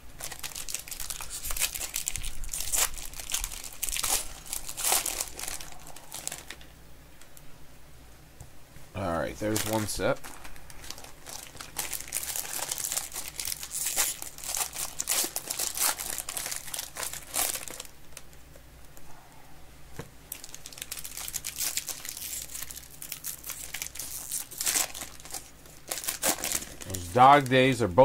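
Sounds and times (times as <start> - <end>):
foil wrappers crinkling and tearing: 0.2 - 6.7, 9.3 - 18.4, 20.3 - 27.9.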